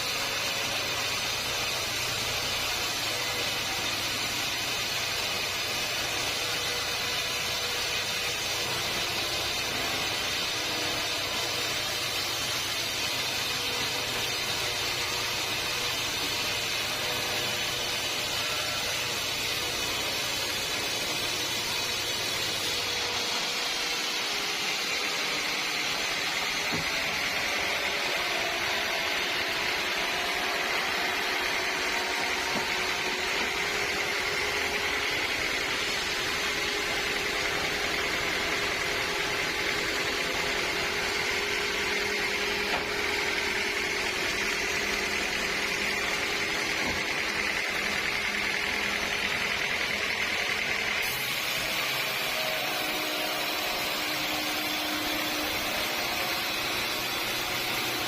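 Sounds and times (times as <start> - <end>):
high machine whine: 0.0 - 58.0.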